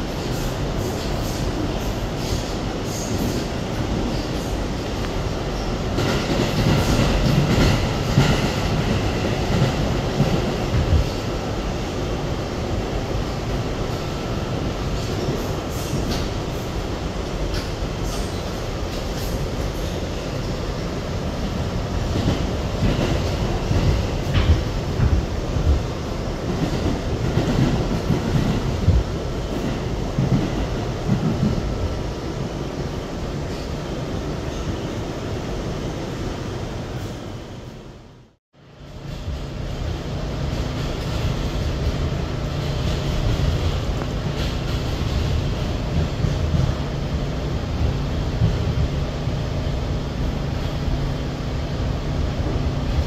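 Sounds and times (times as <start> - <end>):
wheels rumbling on rails: 0.0 - 37.3, 38.7 - 53.0.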